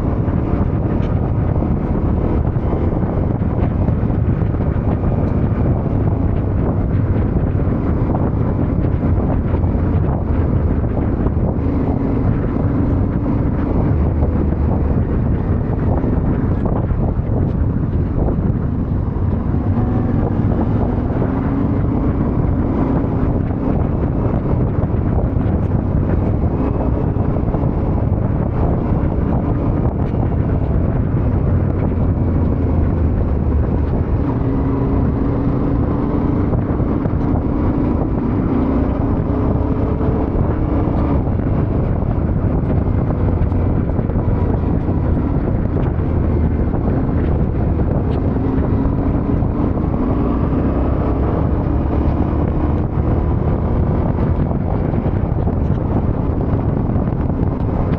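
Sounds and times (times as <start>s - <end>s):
motorcycle engine while riding: 0.0s - 57.9s
wind noise on microphone: 0.0s - 57.9s.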